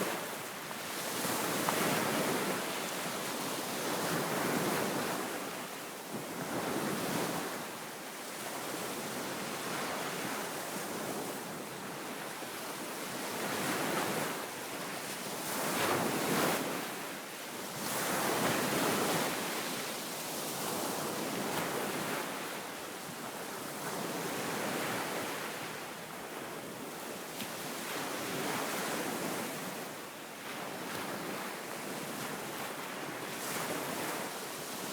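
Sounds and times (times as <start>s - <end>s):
waves breaking on a beach: 0.0s - 34.9s.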